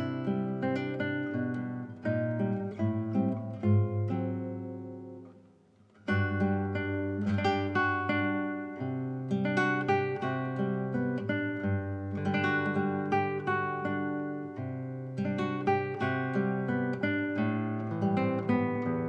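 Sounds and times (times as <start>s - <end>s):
plucked acoustic guitar: 0.0s - 19.0s.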